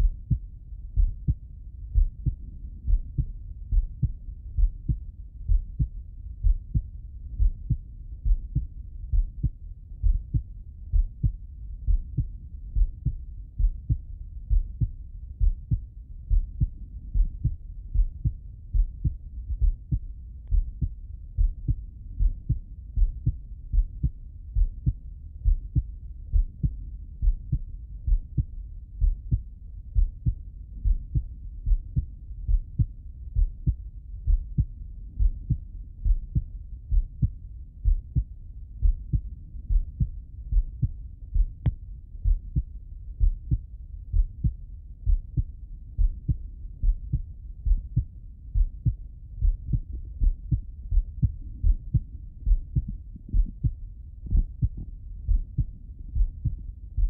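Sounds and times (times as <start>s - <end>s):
heartbeat through stethoscope: 0.0s - 57.0s.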